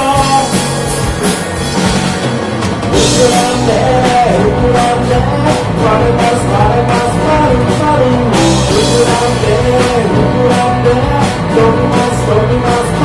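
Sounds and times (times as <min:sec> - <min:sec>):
lead melody line: 0:00.0 - 0:13.0
rock band playing live: 0:00.0 - 0:13.0.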